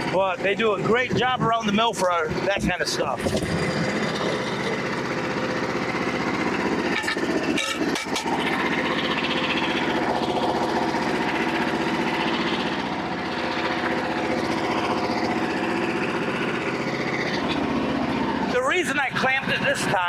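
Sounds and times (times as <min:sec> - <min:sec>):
small gas engine idling: 0:00.0 - 0:20.0.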